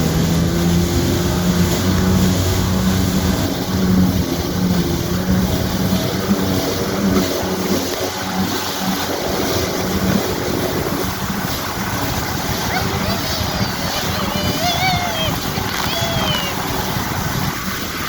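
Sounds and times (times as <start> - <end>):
jet ski engine running: 0.0 - 18.0
water noise: 0.0 - 18.0
wind: 0.0 - 18.0.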